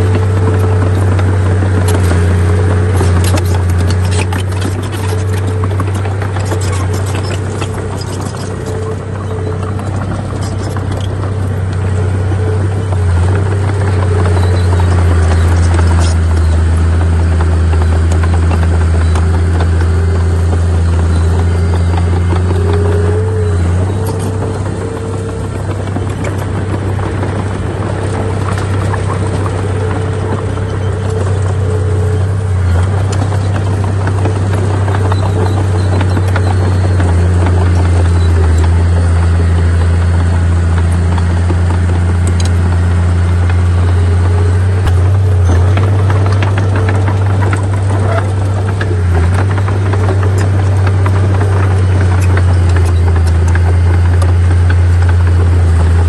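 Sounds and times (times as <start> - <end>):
bulldozer engine drone: 0.0 - 56.0
clicks and rattles: 0.0 - 56.0.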